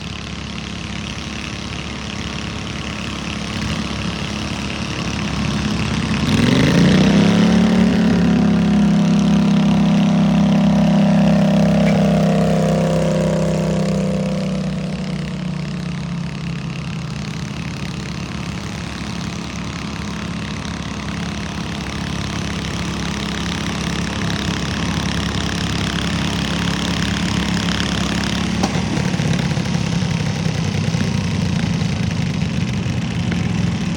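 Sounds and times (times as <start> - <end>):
lawn mower engine revving: 0.0 - 33.9.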